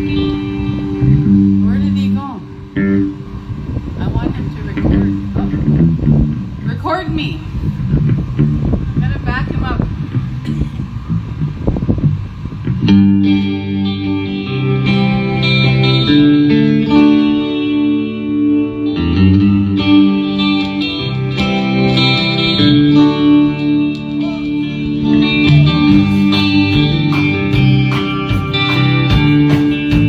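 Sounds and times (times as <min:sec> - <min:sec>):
electric guitar chords: 0:00.0 - 0:30.0.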